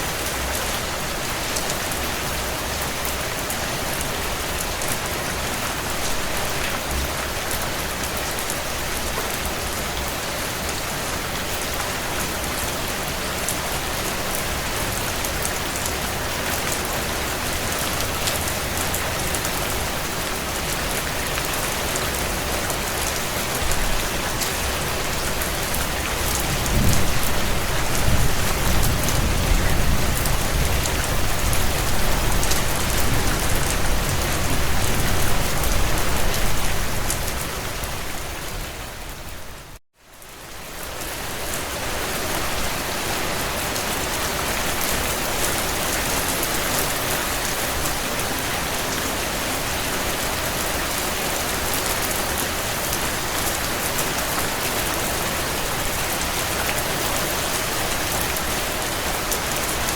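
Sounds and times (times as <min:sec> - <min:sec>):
heavy rain on window panes: 0:00.0 - 0:59.9.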